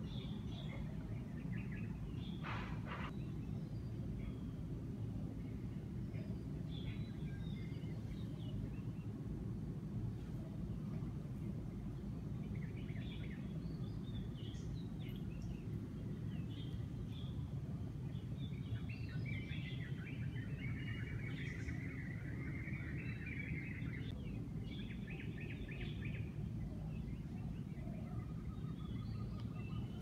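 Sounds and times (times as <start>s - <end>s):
low background rumble: 0.0s - 30.0s
songbirds chirping and twittering: 0.0s - 30.0s.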